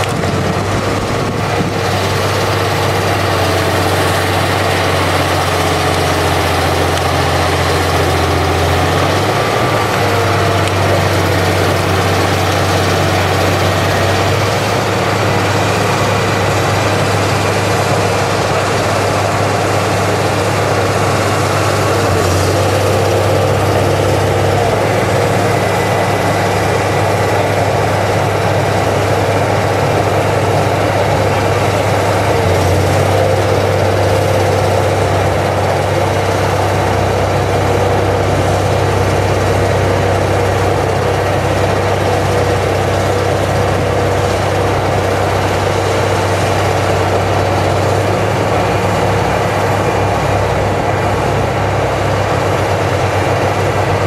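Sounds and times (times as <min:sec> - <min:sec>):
diesel engine running loudly: 0:00.0 - 0:54.0.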